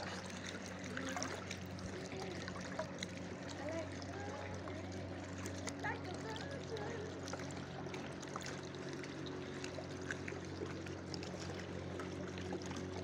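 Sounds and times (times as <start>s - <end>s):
sea water lapping: 0.0s - 13.0s
steady low hum: 0.0s - 13.0s.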